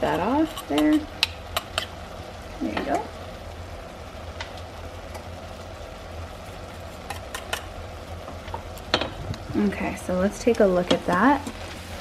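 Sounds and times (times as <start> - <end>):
low steady hum: 0.0 - 12.0
meat and onions sizzling: 0.0 - 12.0.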